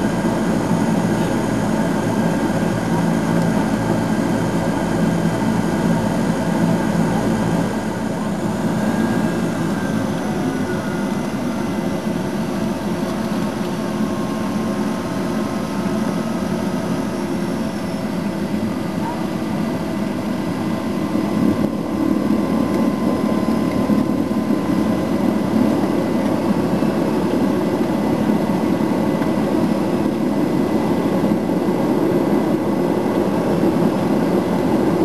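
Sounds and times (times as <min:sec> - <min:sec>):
turboprop engines droning in cabin: 0:00.0 - 0:35.0.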